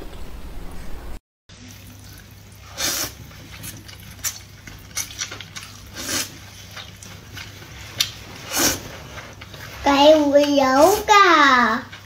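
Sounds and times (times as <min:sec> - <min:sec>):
noodles slurped: 0:01.6 - 0:12.0.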